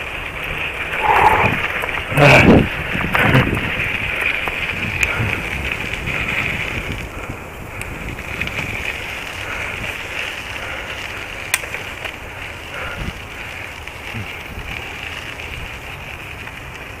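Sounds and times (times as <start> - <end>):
bicycle rolling on trail: 0.0 - 17.0
wind buffeting microphone: 0.0 - 17.0.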